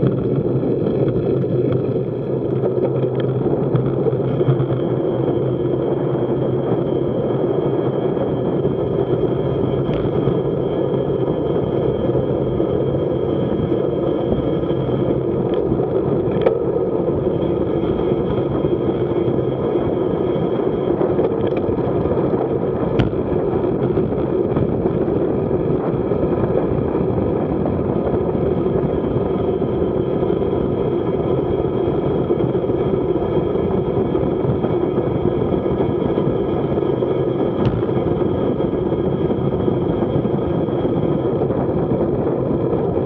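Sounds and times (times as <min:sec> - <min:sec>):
tyre noise on asphalt: 0:00.0 - 0:43.0
wind roaring over microphone: 0:00.0 - 0:43.0.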